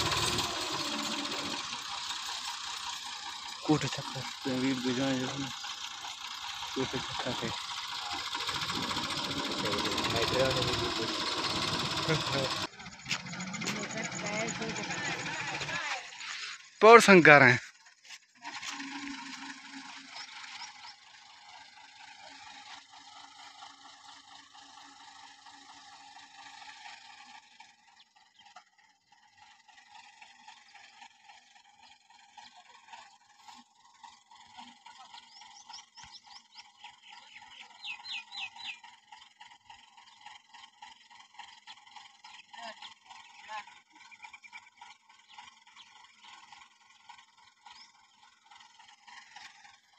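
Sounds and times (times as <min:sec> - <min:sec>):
drilling rig humming: 0:00.0 - 0:49.9.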